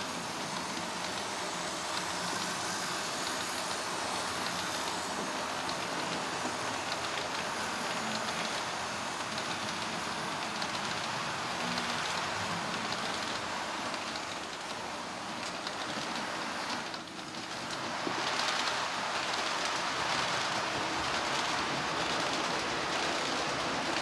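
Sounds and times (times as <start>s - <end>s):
model train wheels rumbling on rail: 0.0s - 24.0s.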